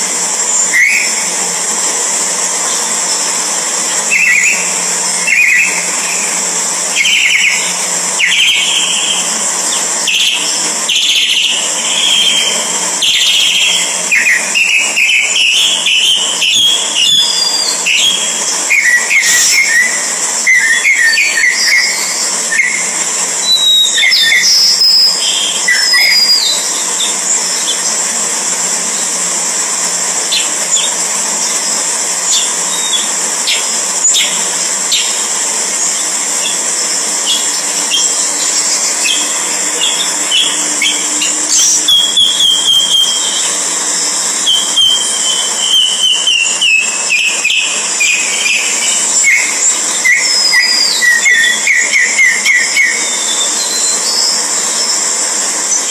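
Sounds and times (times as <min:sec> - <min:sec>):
steady high hiss: 0:00.0 - 0:55.9
birds chirping: 0:03.9 - 0:27.9, 0:32.2 - 0:54.6.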